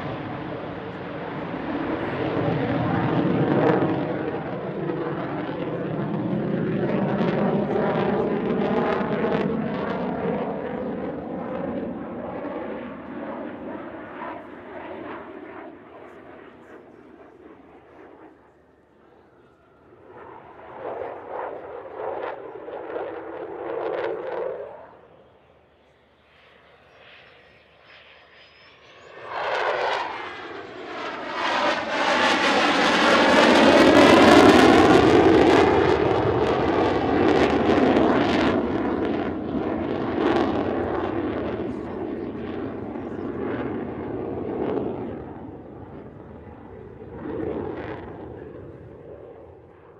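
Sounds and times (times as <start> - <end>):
fighter jet flying past: 0.0 - 49.9.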